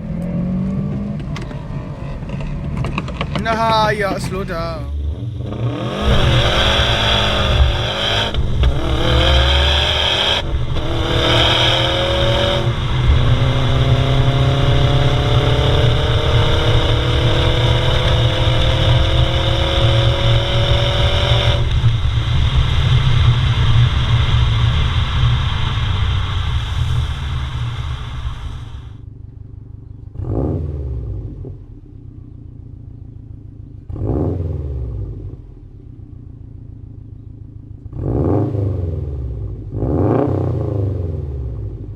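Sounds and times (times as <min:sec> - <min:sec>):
car engine accelerating: 0:00.0 - 0:32.5, 0:33.4 - 0:35.9, 0:37.1 - 0:41.9.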